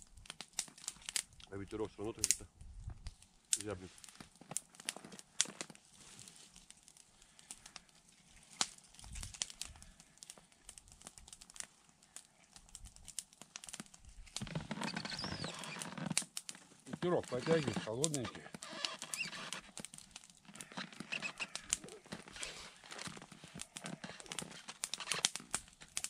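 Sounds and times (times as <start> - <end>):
campfire crackling and popping: 0.0 - 26.0
rustling: 2.9 - 26.0.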